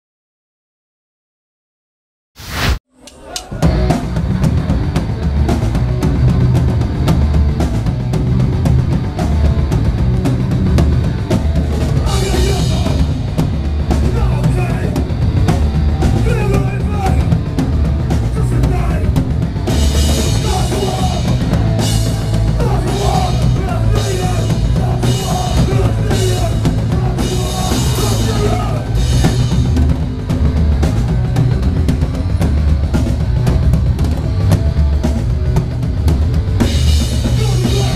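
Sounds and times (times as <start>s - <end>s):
punk band playing live: 3.2s - 37.9s
bass drum and snare beat: 3.6s - 37.9s.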